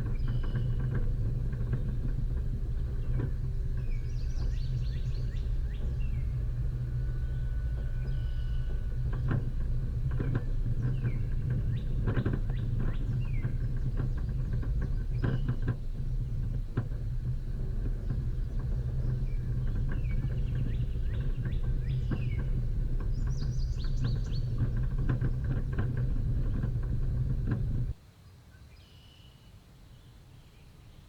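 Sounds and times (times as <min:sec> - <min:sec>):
birds chirping: 0:00.0 - 0:27.9
vehicle engine hum: 0:00.0 - 0:28.0
vehicle knocks and rattles: 0:00.0 - 0:28.0.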